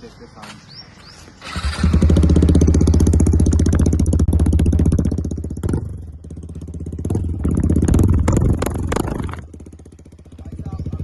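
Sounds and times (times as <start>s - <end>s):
motorcycle engine running loud: 1.4s - 11.0s.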